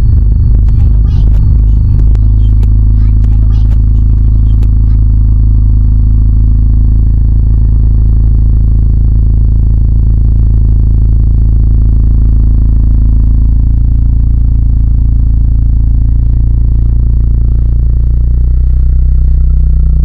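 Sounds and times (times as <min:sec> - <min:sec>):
loud distorted low drone: 0:00.0 - 0:20.0
steady tones: 0:00.0 - 0:20.0.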